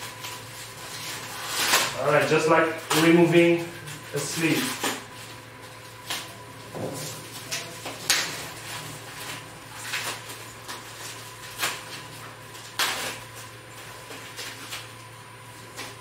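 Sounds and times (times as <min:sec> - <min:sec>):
foam packing wrap rustling: 0:00.0 - 0:16.0.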